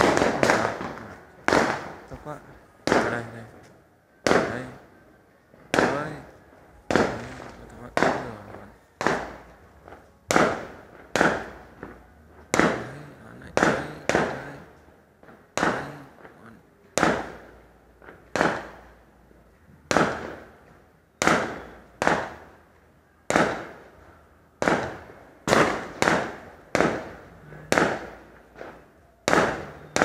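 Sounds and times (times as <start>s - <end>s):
fireworks bangs with echo: 0.0s - 3.6s, 4.2s - 19.1s, 19.8s - 30.0s.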